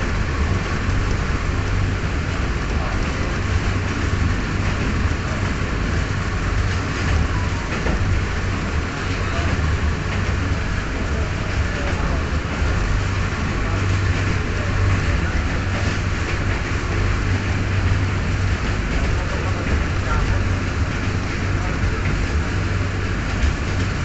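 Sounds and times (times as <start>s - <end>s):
train running hiss: 0.0s - 24.0s
train wheels rumbling: 0.0s - 24.0s.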